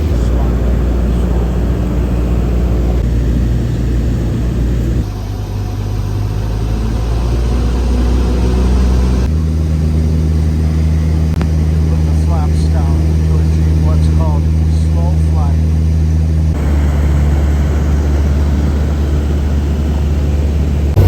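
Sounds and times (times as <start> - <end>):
light aircraft engine drone: 0.0 - 21.0.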